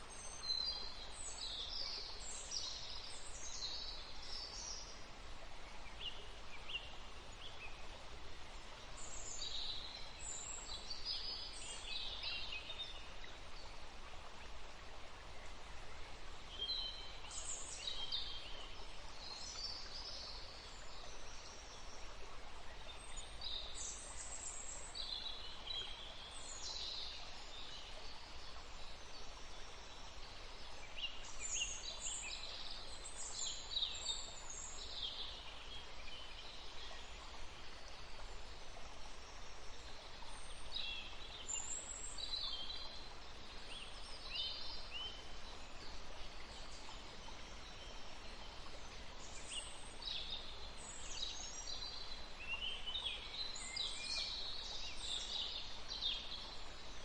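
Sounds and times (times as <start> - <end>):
outdoor background hiss: 0.0 - 57.0
songbirds chirping: 0.0 - 57.0.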